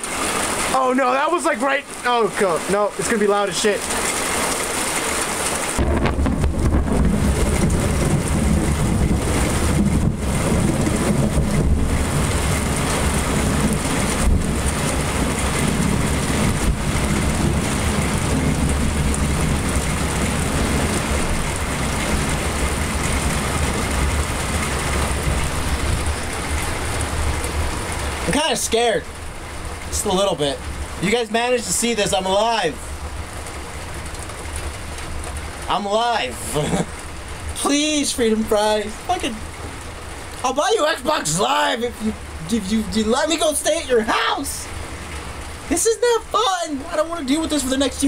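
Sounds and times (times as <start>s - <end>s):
heavy rain pouring: 0.0s - 48.0s
thunder rumbling: 5.4s - 48.0s.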